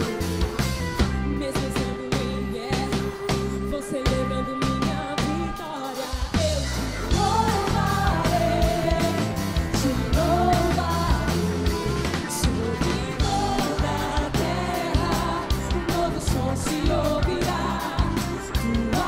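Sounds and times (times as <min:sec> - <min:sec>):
worship band playing: 0:00.0 - 0:19.0
singers singing: 0:01.4 - 0:19.0.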